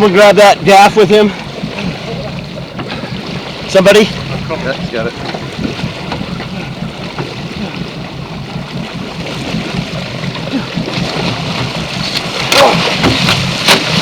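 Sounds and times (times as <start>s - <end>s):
boat engine running: 0.0s - 14.0s
water sloshing against hull: 0.0s - 14.0s.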